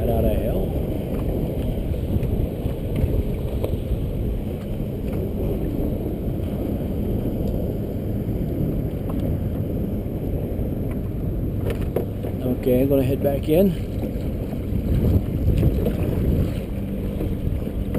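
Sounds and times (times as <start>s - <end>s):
wind on microphone: 0.0s - 17.9s.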